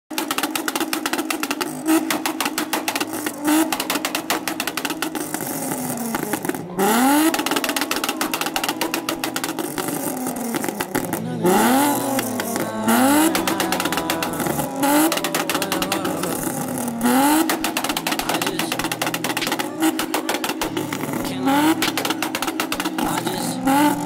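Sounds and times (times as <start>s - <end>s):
car engine revving: 0.1s - 24.0s.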